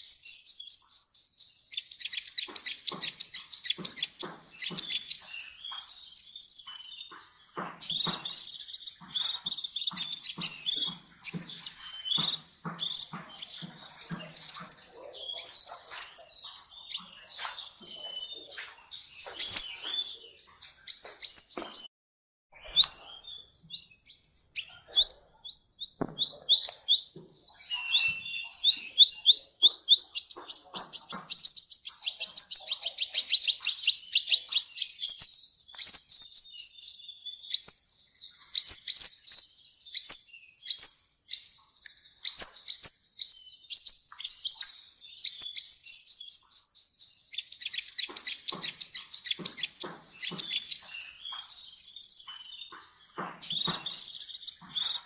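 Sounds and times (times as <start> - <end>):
bird twittering song: 0.0 - 21.9, 22.6 - 55.0.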